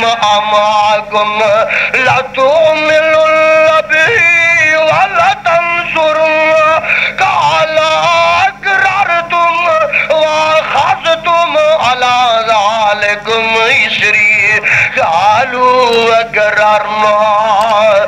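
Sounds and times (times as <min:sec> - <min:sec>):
man chanting in a high voice: 0:00.0 - 0:18.0.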